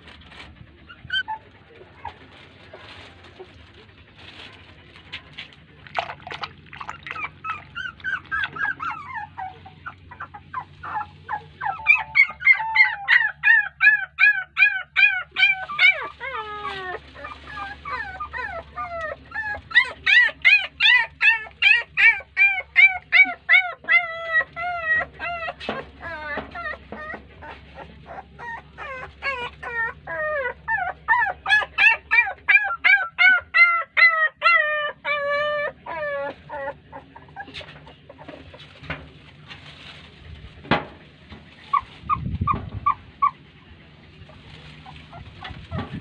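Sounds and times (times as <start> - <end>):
puppies whimpering: 0.0 - 40.5, 41.5 - 46.0.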